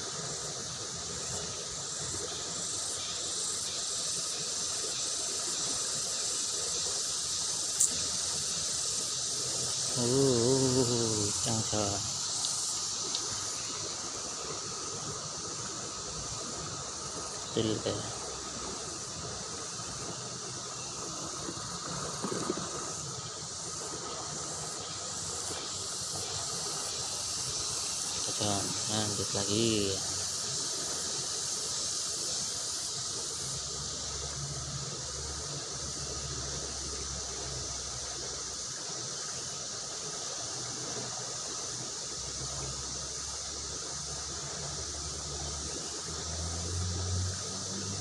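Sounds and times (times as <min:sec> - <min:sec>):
fast-flowing river water: 0:00.0 - 0:48.0
insects chirring: 0:00.0 - 0:48.0.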